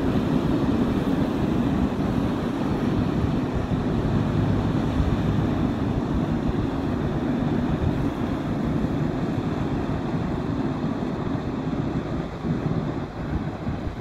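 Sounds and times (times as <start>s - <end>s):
choppy river water: 0.0s - 14.0s
ship diesel engine rumble: 0.0s - 14.0s
wind buffeting microphone: 0.0s - 14.0s.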